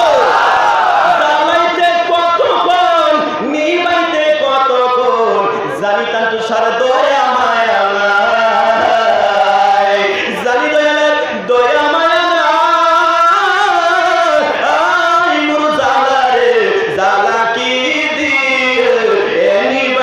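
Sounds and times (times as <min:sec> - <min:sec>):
man chanting into microphone: 0:01.0 - 0:20.0.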